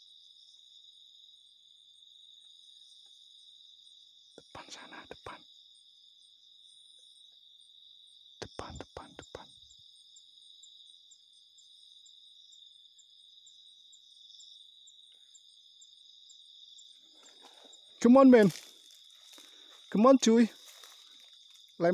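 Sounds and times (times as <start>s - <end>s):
high-pitched cricket trill: 0.0s - 21.9s
insect chirping: 0.0s - 21.9s.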